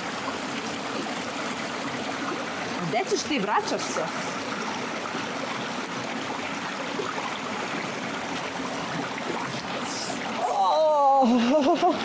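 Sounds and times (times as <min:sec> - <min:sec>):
stream flowing over stones: 0:00.0 - 0:12.0.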